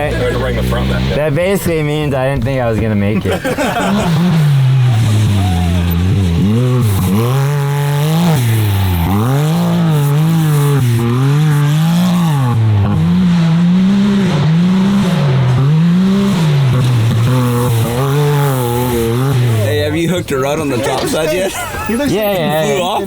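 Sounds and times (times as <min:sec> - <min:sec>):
engine revving up and down: 0:00.0 - 0:21.6.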